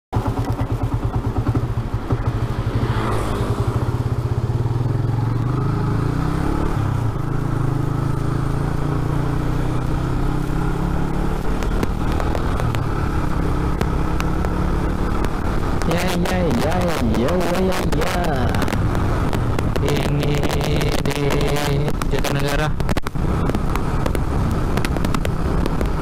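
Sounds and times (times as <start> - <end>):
motorcycle engine pulling away: 0.2 - 21.7.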